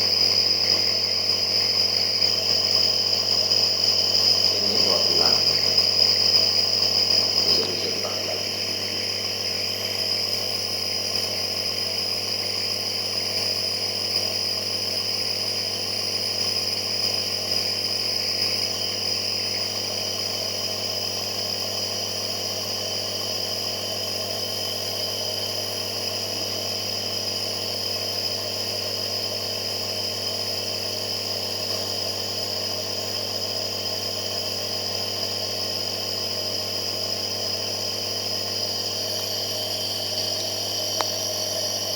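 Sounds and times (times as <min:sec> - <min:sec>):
air compressor humming with whine: 0:00.0 - 0:41.9.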